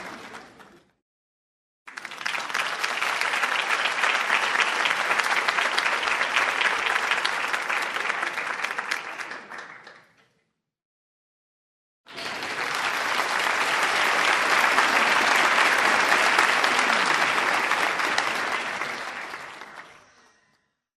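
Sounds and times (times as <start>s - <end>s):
audience applause: 0.0s - 0.8s, 1.9s - 10.2s, 12.1s - 20.3s.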